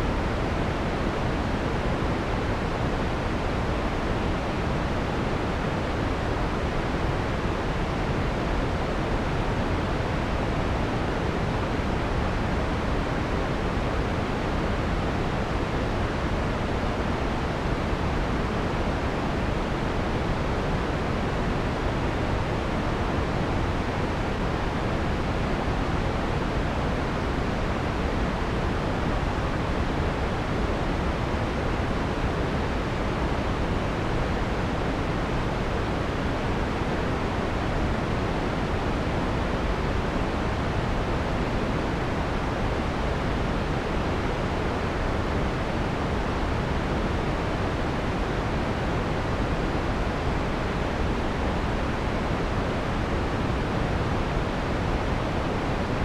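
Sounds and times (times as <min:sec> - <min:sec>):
soft filtered white noise hiss: 0:00.0 - 0:56.0.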